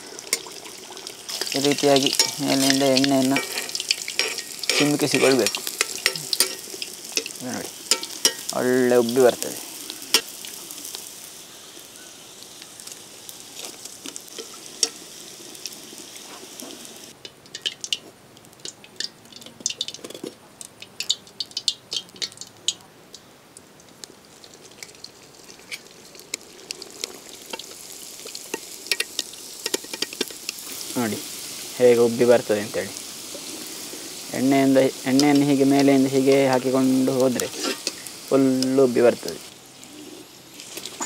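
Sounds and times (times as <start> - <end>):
frying oil crackling and popping: 0.0 - 41.0
hot oil sizzling: 0.0 - 41.0.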